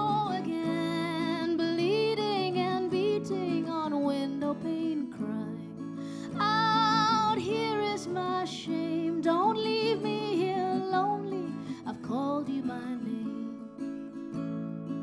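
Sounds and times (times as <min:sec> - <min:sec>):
woman singing: 0:00.0 - 0:14.0
acoustic guitar: 0:00.0 - 0:15.0.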